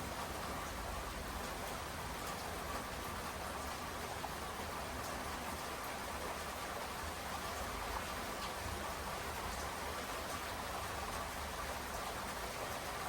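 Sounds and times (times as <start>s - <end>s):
steady rainfall: 0.0s - 13.0s.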